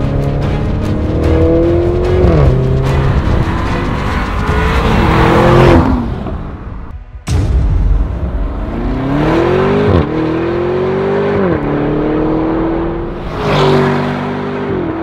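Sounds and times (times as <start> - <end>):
car engine accelerating: 0.0 - 6.9, 8.5 - 15.0.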